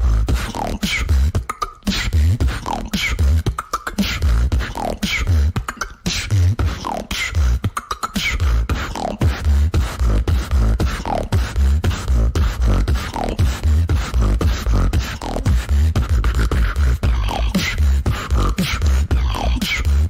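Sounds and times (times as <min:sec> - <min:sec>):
woman beatboxing: 0:00.0 - 0:20.0.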